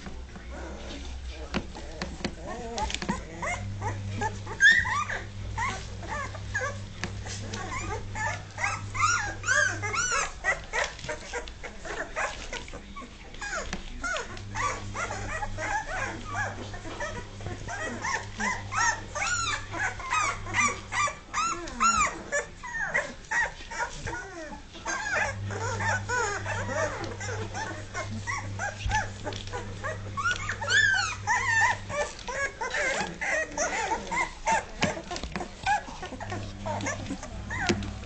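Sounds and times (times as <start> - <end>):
puppies whimpering and squeaking: 0.0 - 38.0
steady low hum: 0.0 - 38.0.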